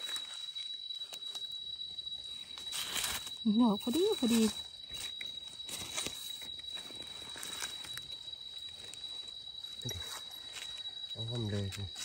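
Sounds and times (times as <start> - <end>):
rustling of leaf litter and soil: 0.0 - 12.0
steady high-pitched whine: 0.0 - 12.0.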